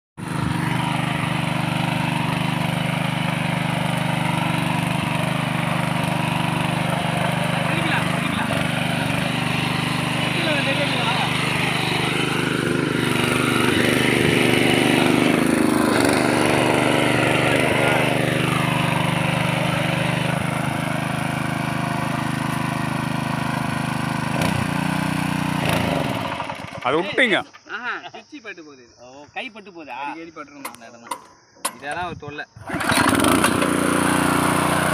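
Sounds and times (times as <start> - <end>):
rotary tines tilling soil: 0.2 - 26.2, 32.6 - 34.9
power weeder engine running: 0.2 - 27.0, 32.6 - 34.9.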